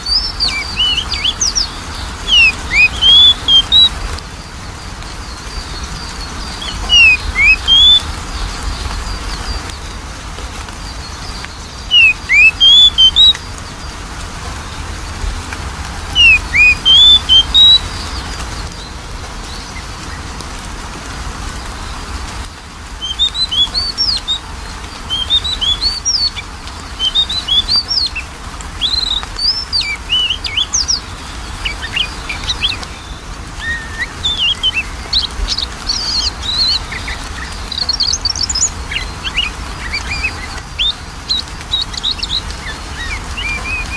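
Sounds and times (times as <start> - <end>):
bird whistling song: 0.0 - 4.2, 5.2 - 9.8, 11.0 - 13.7, 15.9 - 20.2, 23.0 - 43.9
steady hiss: 0.0 - 43.9.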